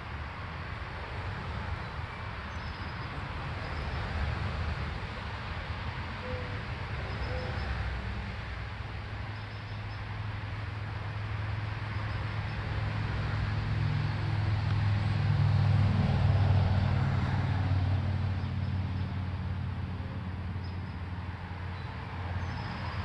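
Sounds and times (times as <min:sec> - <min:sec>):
distant vehicle engine rumble: 0:01.5 - 0:23.0.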